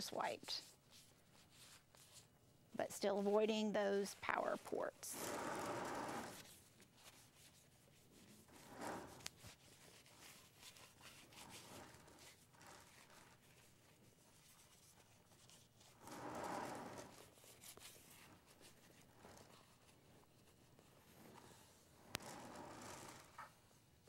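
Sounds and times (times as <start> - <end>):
paper towel rubbing on plastic: 0.0 - 2.3, 4.1 - 23.8.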